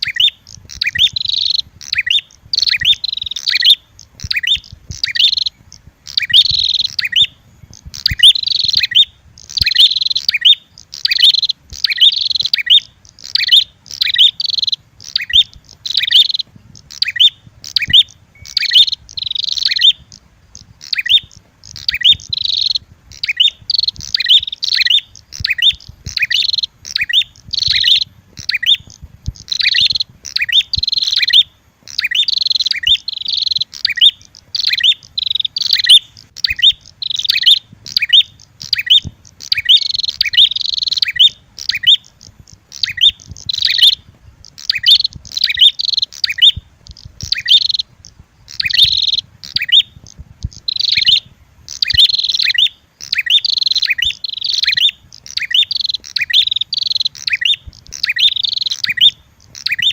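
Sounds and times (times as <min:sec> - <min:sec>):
bird sharp high chirps: 0:00.0 - 0:59.9.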